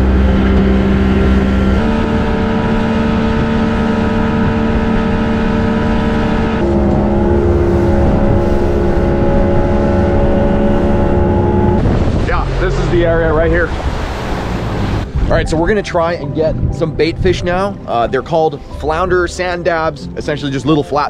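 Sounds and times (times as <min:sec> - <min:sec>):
outboard motors droning: 0:00.0 - 0:21.0.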